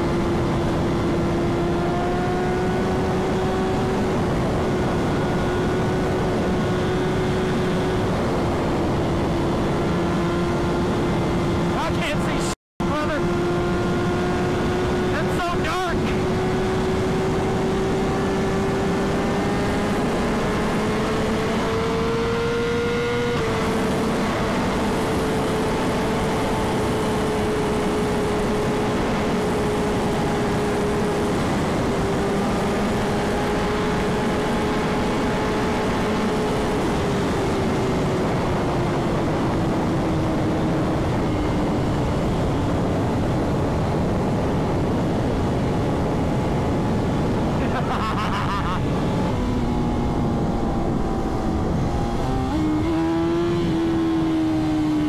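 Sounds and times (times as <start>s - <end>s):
heavy wind noise: 0.0s - 55.0s
motorcycle engine at high speed: 0.0s - 55.0s.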